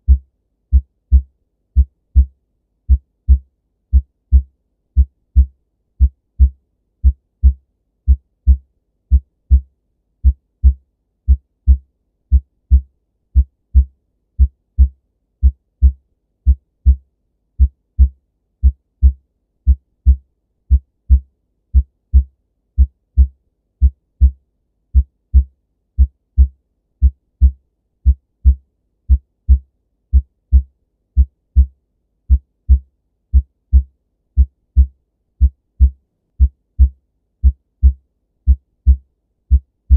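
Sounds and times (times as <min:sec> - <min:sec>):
heartbeat lub-dub thumps: 0:00.0 - 0:02.3, 0:02.9 - 0:17.0, 0:17.6 - 0:21.2, 0:21.8 - 0:24.4, 0:25.0 - 0:31.7, 0:32.3 - 0:39.9.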